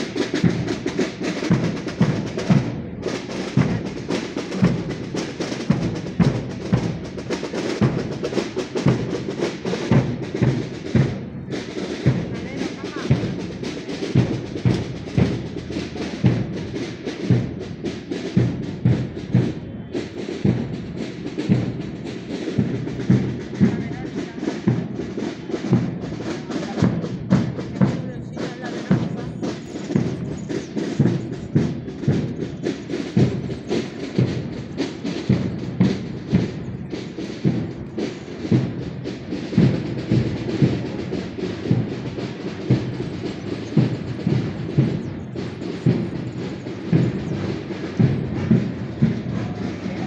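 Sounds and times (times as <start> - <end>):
marching drums beating: 0.0 - 50.0.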